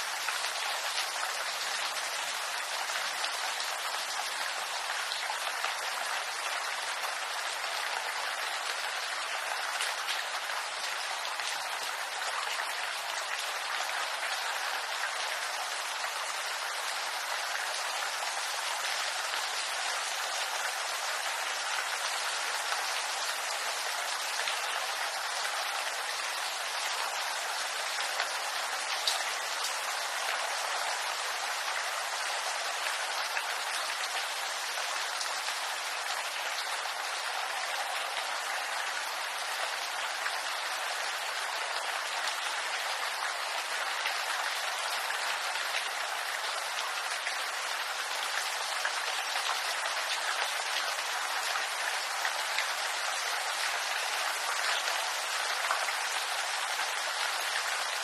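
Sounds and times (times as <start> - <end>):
rain on bamboo leaves: 0.0 - 58.0.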